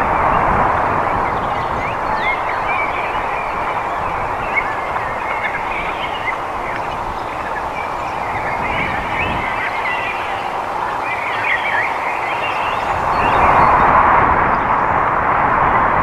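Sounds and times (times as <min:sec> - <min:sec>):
steady rushing background noise: 0:00.0 - 0:16.0.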